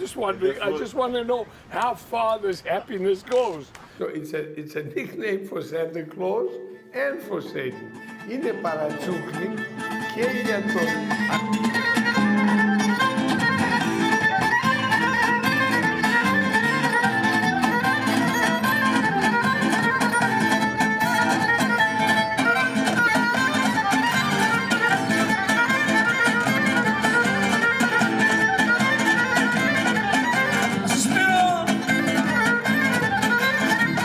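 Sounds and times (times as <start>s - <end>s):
folk music with bowed strings: 6.1s - 34.0s.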